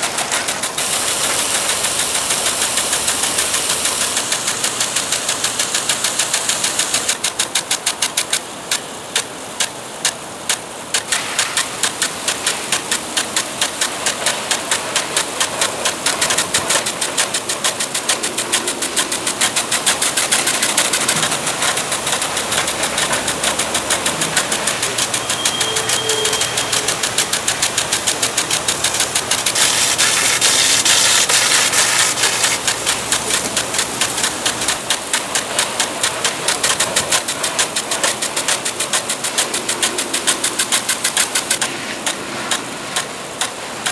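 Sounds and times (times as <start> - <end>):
impact sprinkler ticking: 0.0 - 43.9
water spray hissing: 0.0 - 43.9.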